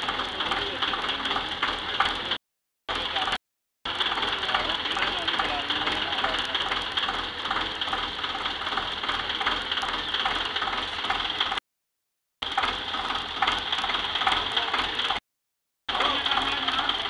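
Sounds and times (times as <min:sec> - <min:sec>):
tractor engine running with rattle: 0:00.0 - 0:11.6, 0:12.4 - 0:15.2, 0:15.9 - 0:17.0.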